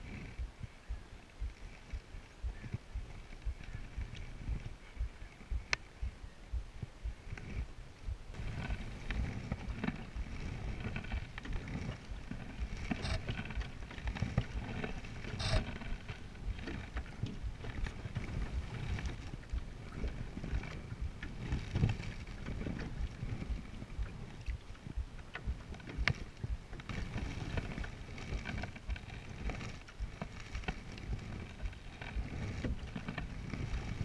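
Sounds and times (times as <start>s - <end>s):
paddle strokes: 0.0s - 34.0s
water sloshing against hull: 0.0s - 34.0s
wind rumble on microphone: 0.0s - 34.0s.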